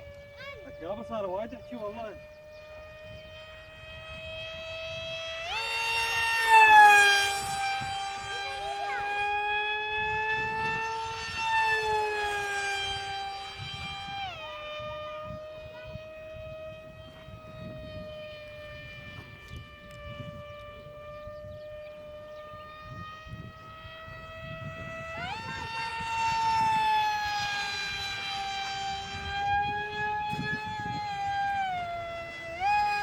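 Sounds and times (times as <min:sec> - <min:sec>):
model plane motor whining: 0:00.0 - 0:33.0.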